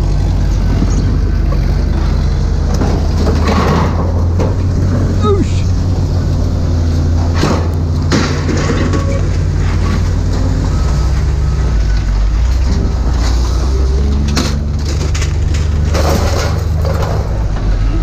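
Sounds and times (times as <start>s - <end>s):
large engine droning: 0.0s - 18.0s.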